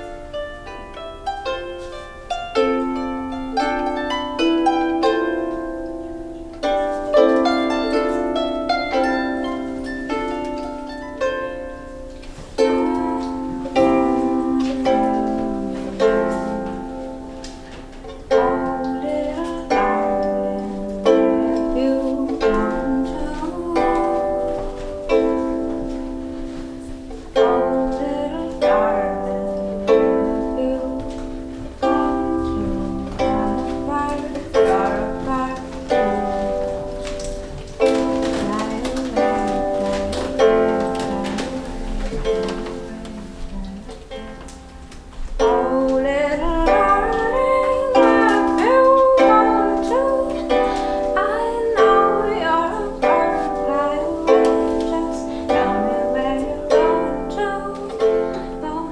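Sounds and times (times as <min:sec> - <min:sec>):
plucked string chords: 0:00.0 - 0:58.9.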